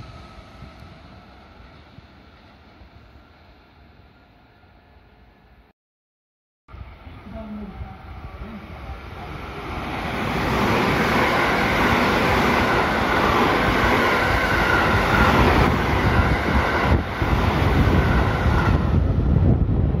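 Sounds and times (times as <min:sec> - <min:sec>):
train wheels rumbling on rail: 0:00.0 - 0:03.5, 0:07.3 - 0:20.0.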